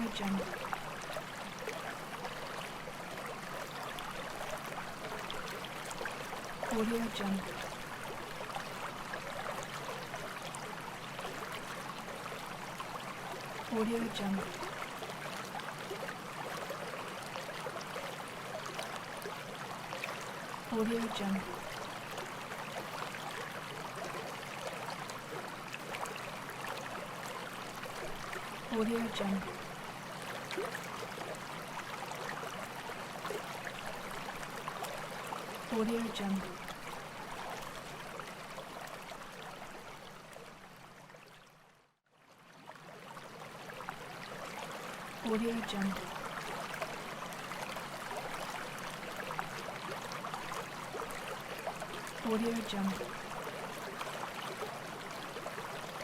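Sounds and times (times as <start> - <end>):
stream flowing over rocks: 0.0 - 41.6, 42.2 - 56.0.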